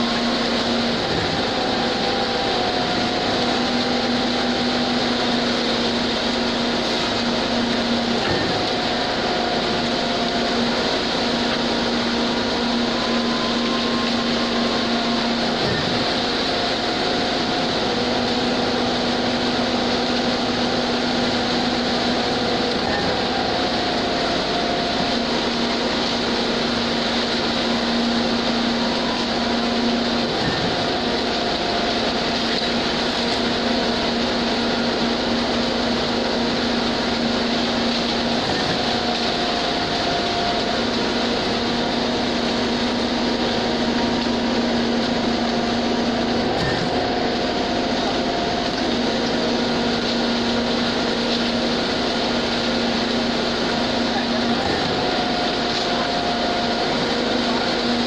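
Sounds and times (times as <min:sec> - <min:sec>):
steady hum: 0:00.0 - 0:58.0
truck and pump engines running: 0:00.0 - 0:58.0.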